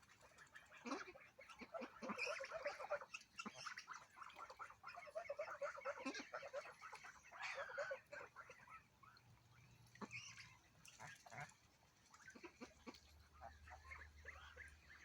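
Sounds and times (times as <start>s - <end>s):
ducks quacking: 0.2s - 9.2s, 9.9s - 15.0s.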